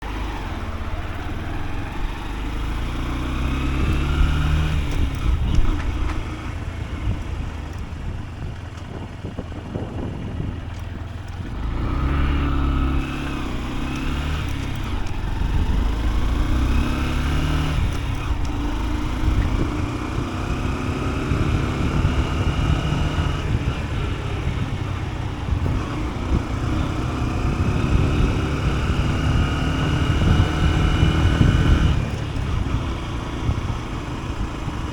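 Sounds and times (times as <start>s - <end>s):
motorcycle engine shifting gears: 0.0s - 34.9s.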